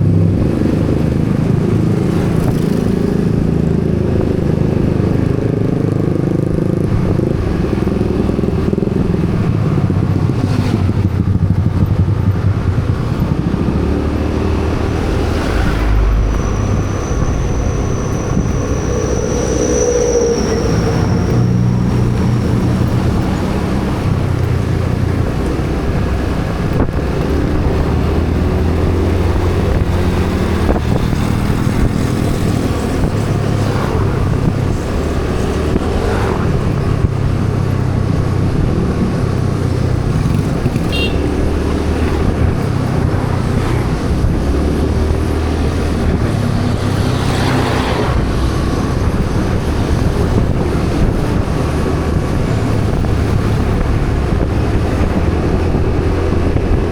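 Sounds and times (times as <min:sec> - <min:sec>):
vehicle engine running: 0:00.0 - 0:47.5
traffic: 0:00.0 - 0:56.9.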